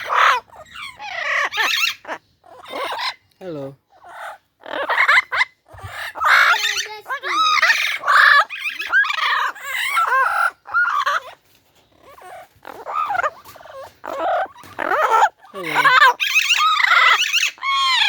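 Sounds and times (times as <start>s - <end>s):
parrot squawking and chattering: 0.0s - 18.0s.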